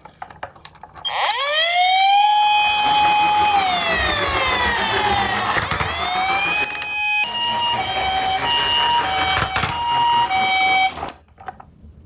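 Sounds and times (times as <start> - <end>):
siren rising wail: 1.1 - 11.1
two-tone hi-lo siren: 1.1 - 11.2.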